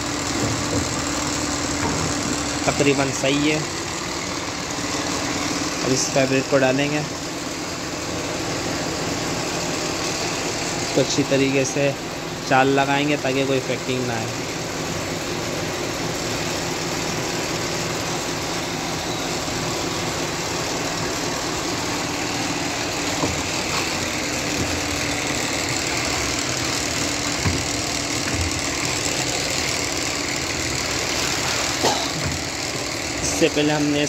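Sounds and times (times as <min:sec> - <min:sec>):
machine running: 0:00.0 - 0:34.0.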